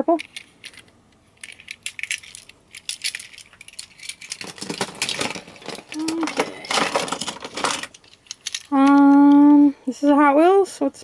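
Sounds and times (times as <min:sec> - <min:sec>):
metal toy cars clattering: 0:00.0 - 0:09.4.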